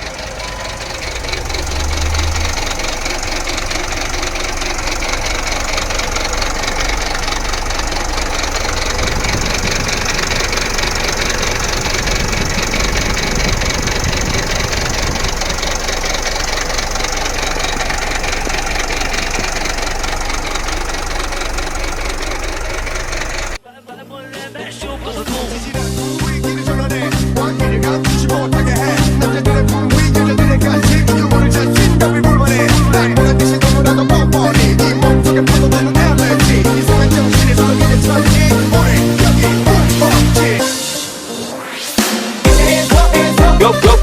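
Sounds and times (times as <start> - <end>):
diesel engine running: 0.0 - 23.6, 25.1 - 40.8, 42.5 - 44.0.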